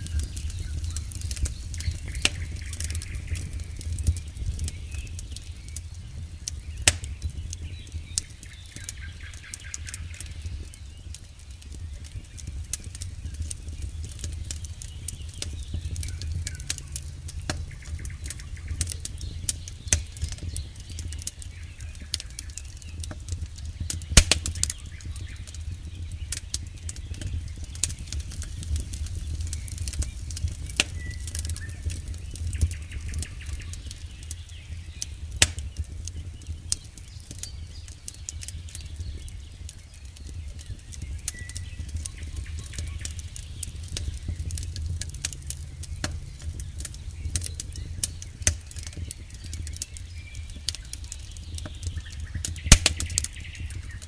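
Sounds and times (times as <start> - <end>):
campfire crackling and popping: 0.0 - 54.0
low steady rumble: 0.0 - 54.0.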